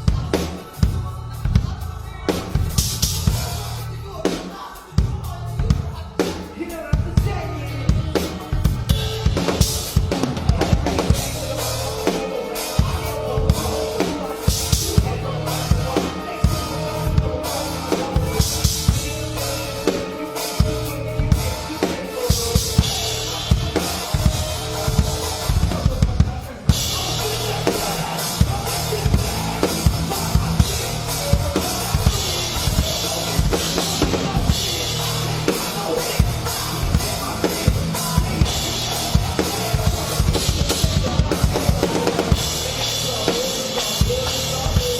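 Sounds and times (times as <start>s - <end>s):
low steady bass: 0.0s - 4.2s, 7.0s - 12.2s, 12.8s - 20.0s, 20.6s - 43.4s
bass drum strokes: 7.0s - 43.4s.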